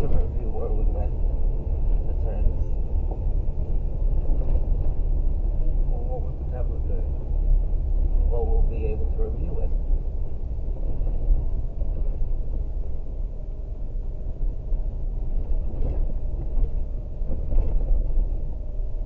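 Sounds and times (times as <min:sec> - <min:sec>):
tyre and road rumble: 0:00.0 - 0:19.0
vehicle engine: 0:00.0 - 0:19.0.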